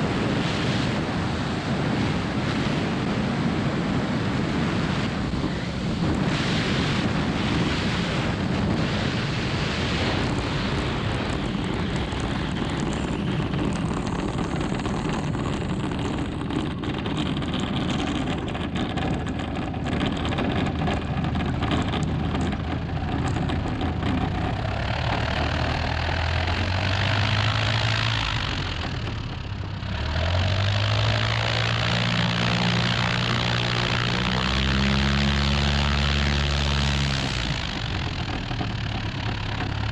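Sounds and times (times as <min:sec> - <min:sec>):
propeller aircraft engine running: 0:00.0 - 0:39.9
wind rush on microphone: 0:00.0 - 0:39.9.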